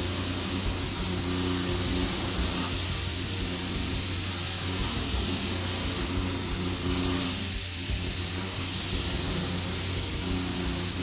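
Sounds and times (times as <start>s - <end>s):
milling machine hum: 0.0s - 11.0s
spindle and cutter hiss: 0.0s - 11.0s.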